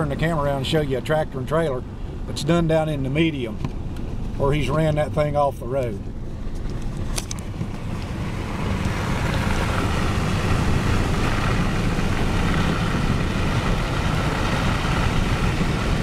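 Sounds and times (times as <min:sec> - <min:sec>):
pickup engine and tyre rumble: 0:00.0 - 0:16.0.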